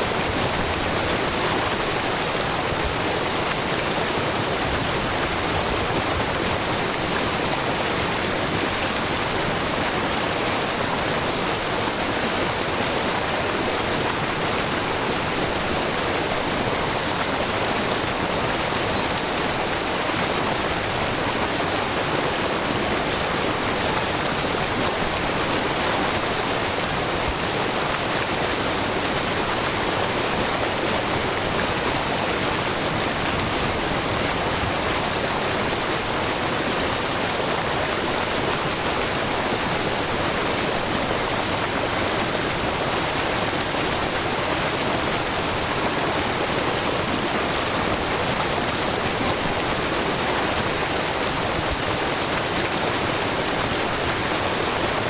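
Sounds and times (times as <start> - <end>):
water streams falling into pool: 0.0 - 55.0
waterfall rushing and splashing: 0.0 - 55.0.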